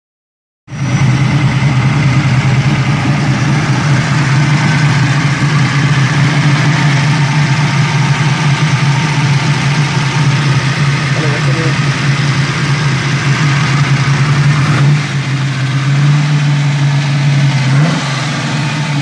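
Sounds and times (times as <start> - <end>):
car engine idling: 0.7 - 19.0.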